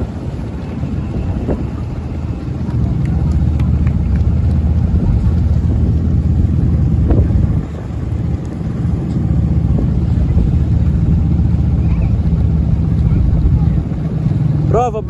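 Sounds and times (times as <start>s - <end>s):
loud engine drone: 0.0s - 15.0s.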